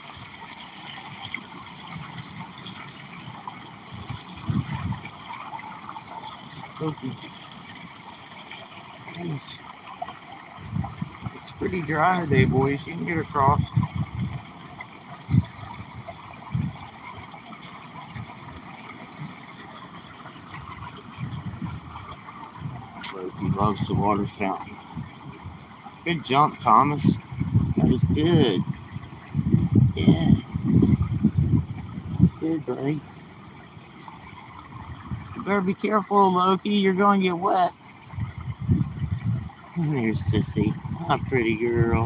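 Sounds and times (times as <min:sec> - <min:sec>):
stream water over rock dam: 0:00.0 - 0:42.0.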